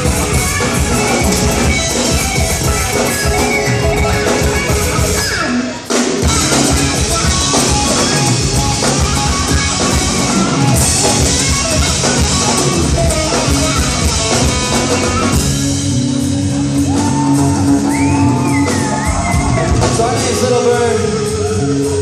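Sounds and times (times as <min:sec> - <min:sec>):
drum kit: 0:00.0 - 0:22.0
electric guitar: 0:00.0 - 0:22.0
live rock band playing: 0:00.0 - 0:22.0.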